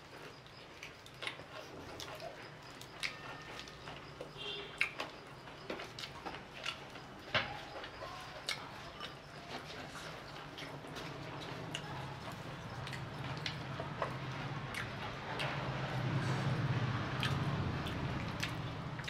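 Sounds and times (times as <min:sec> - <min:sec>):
chewing and crunching: 0:00.0 - 0:19.0.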